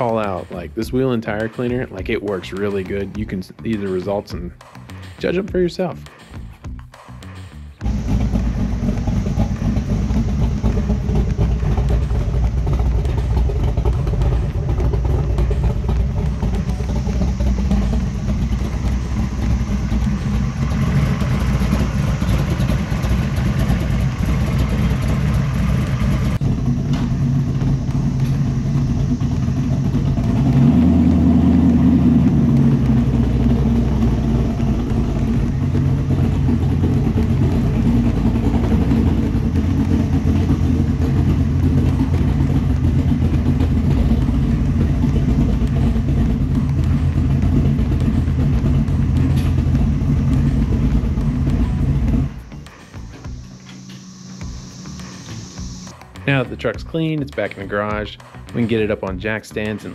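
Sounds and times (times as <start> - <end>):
engine rumbling: 0.0 - 59.9.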